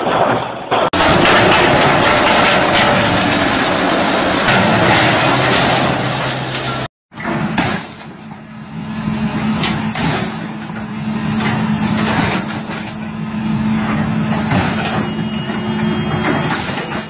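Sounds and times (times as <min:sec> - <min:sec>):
diesel engine humming: 0:01.0 - 0:06.9, 0:08.1 - 0:16.5.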